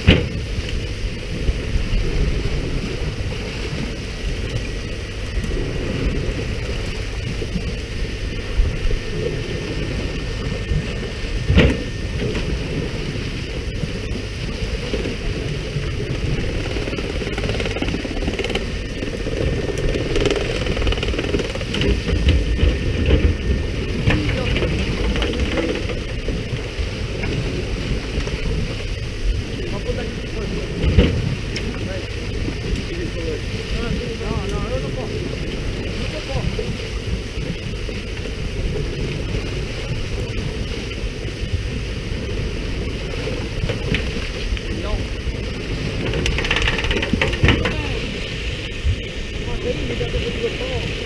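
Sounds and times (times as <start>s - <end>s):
boat engine running: 0.0s - 51.0s
wind on microphone: 0.0s - 51.0s.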